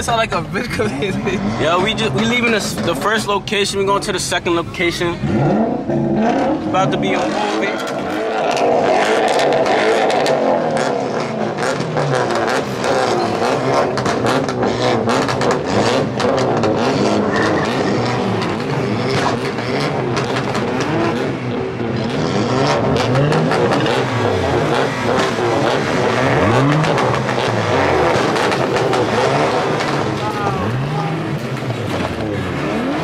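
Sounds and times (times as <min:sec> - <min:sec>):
car engines revving: 0:00.0 - 0:33.0
tire squeal: 0:05.2 - 0:33.0.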